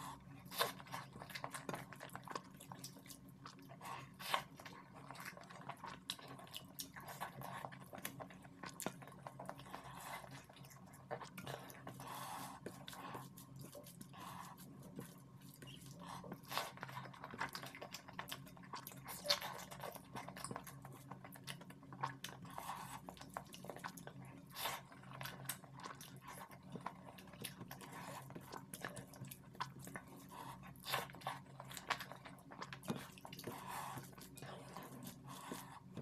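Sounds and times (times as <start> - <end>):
faint low hum: 0.0 - 36.0
wet chewing: 0.0 - 36.0.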